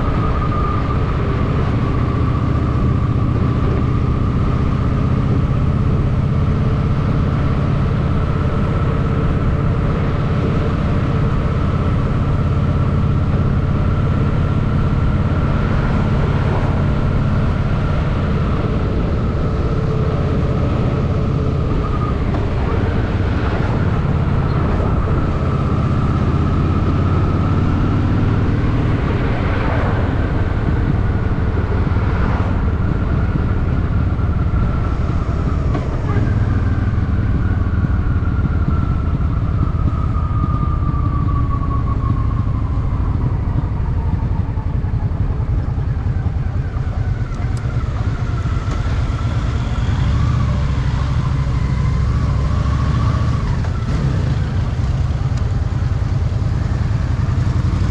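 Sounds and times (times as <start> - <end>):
motorcycle engine deep rumble: 0.0 - 57.9.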